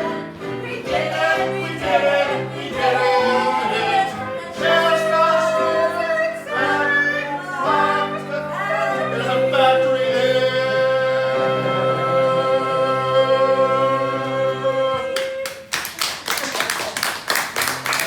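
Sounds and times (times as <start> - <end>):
group singing together: 0.0 - 15.4.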